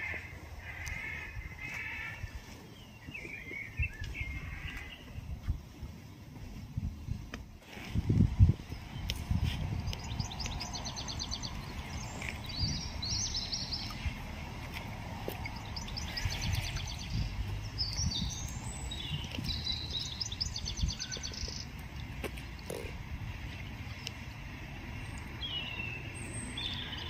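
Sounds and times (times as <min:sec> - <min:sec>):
songbirds trilling: 0:00.0 - 0:06.5, 0:08.6 - 0:27.0.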